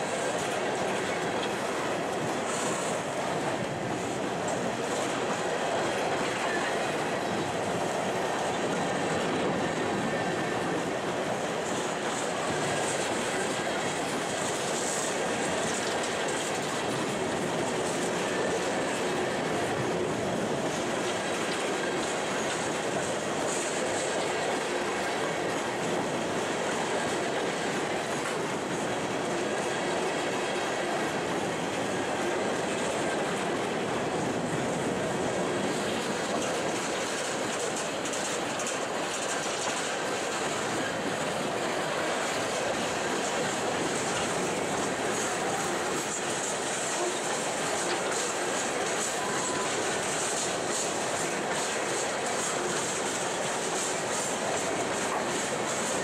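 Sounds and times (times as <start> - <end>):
steel wheels running on rail: 0.0 - 56.0.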